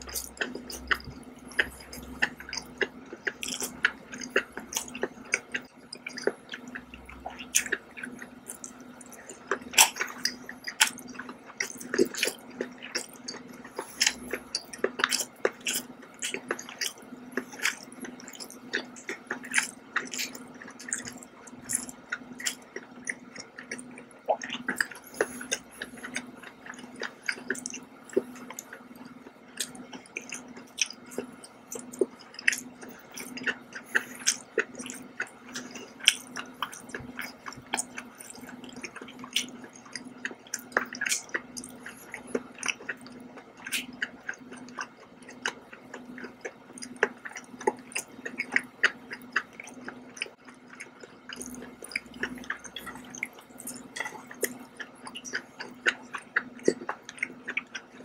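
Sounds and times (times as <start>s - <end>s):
person chewing with mouth clicks: 0.0s - 58.0s
steady low hum: 0.0s - 58.0s.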